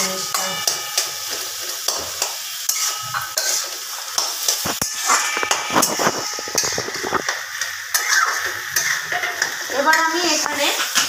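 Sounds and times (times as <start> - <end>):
vegetables sizzling in a pan: 0.0 - 11.0
spatula scraping and tapping pan: 0.3 - 11.0.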